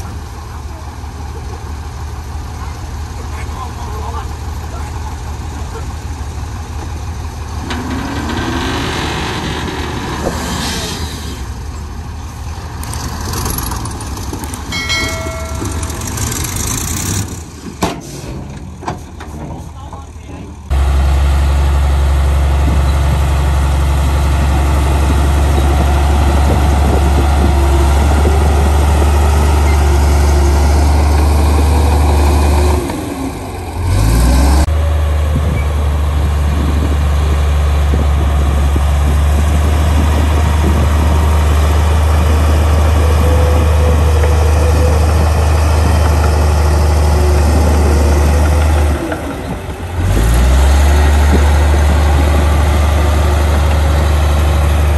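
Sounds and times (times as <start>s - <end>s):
bulldozer diesel engine droning: 0.0s - 54.9s.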